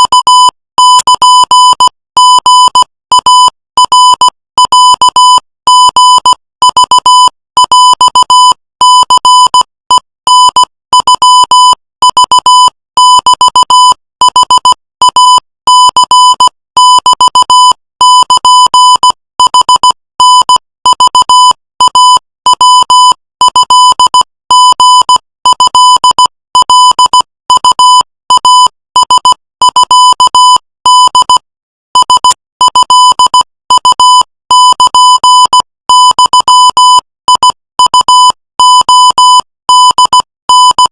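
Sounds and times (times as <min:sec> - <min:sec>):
morse code beeps: 0:00.0 - 0:31.4, 0:32.0 - 0:40.9.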